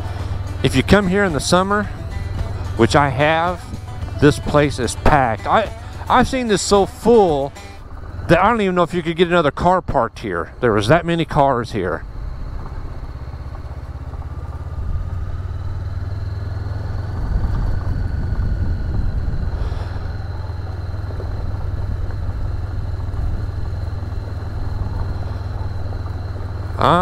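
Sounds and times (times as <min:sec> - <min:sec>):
motorcycle engine at low speed: 0:00.0 - 0:27.0.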